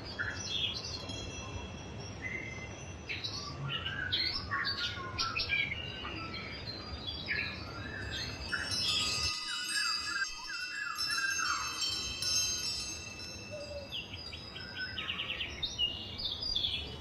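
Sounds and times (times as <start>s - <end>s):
songbirds chirping: 0.0s - 17.0s
wind chimes ringing: 0.1s - 4.6s, 5.6s - 17.0s.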